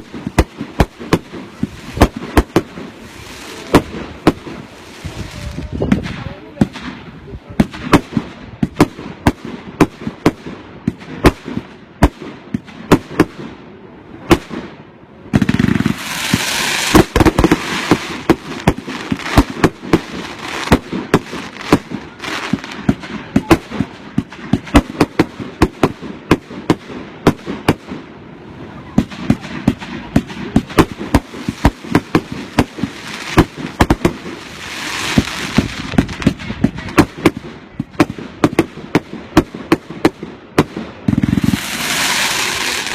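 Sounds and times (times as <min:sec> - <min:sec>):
fireworks banging: 0:00.0 - 0:28.2, 0:28.8 - 0:42.9
firework hiss and crackle: 0:00.0 - 0:42.9.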